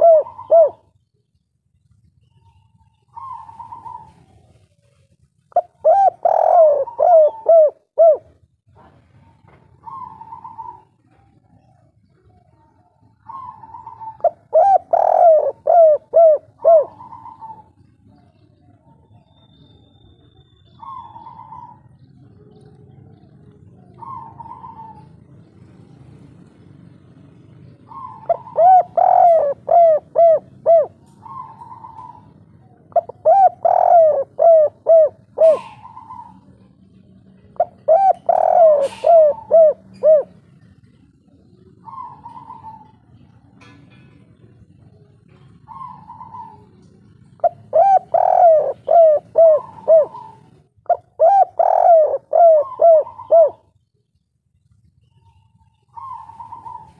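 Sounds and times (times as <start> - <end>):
dove cooing: 0.0 - 1.4, 2.1 - 53.9, 55.0 - 56.9.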